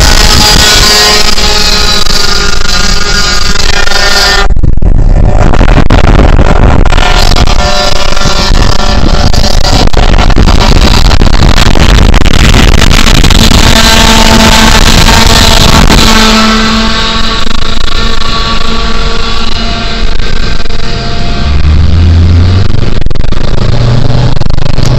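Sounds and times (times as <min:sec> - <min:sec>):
car wind and road noise: 0:00.0 - 0:24.9.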